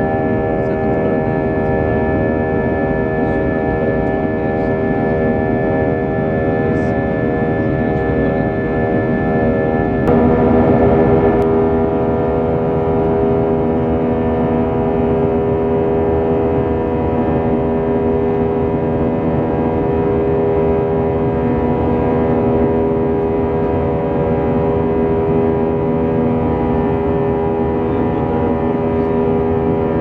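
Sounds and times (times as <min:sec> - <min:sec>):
jet engines droning in cabin: 0:00.0 - 0:30.0.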